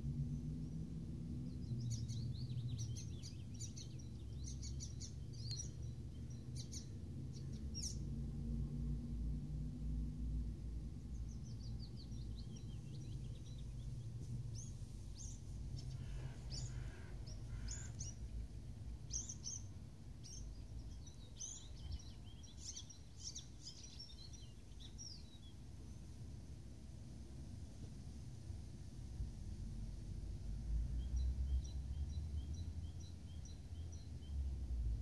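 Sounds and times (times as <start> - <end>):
low background rumble: 0.0 - 35.0
songbirds chirping: 0.0 - 35.0.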